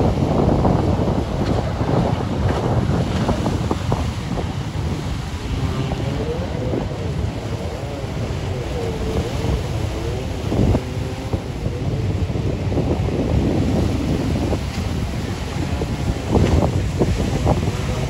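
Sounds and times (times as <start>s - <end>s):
jet ski engine revving: 0.0s - 18.0s
wind buffeting microphone: 0.0s - 18.0s.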